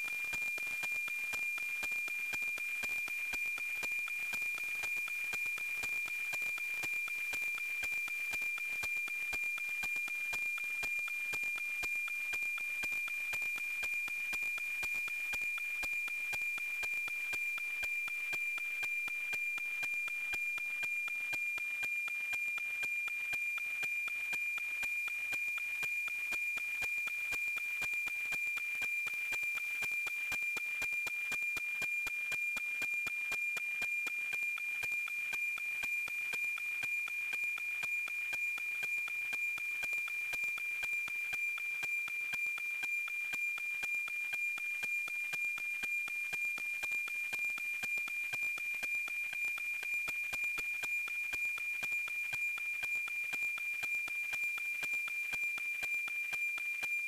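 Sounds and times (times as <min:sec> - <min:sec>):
rhythmic tick-tock: 0:00.0 - 0:57.0.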